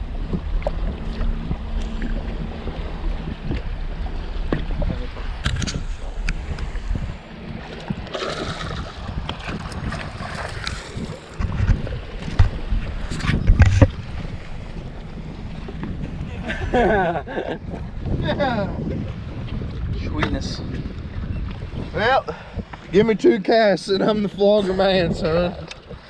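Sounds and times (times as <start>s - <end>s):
water noise: 0.0s - 26.0s
wind on microphone: 0.0s - 26.0s.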